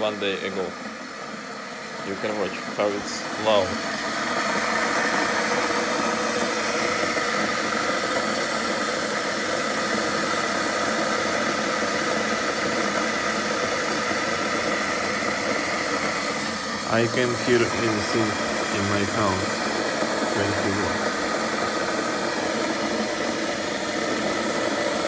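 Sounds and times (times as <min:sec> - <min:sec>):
electric kettle hissing: 0:00.0 - 0:25.0.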